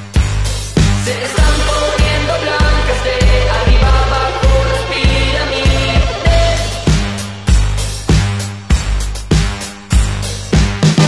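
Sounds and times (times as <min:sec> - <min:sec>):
kick drum beat: 0:00.2 - 0:11.0.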